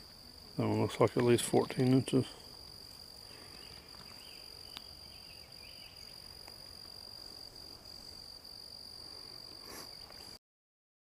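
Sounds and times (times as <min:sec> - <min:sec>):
crickets trilling: 0:00.0 - 0:10.4
low background hiss: 0:00.0 - 0:10.4.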